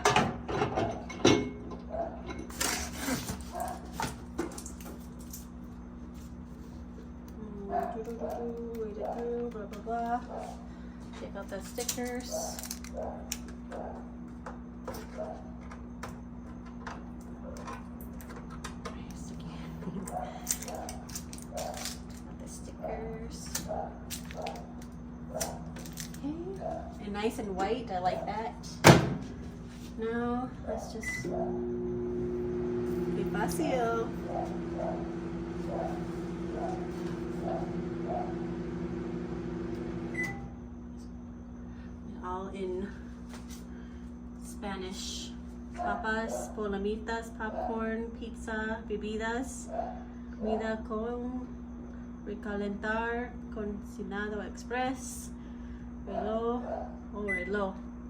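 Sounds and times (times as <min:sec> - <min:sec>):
steady low hum: 0:01.0 - 0:58.0.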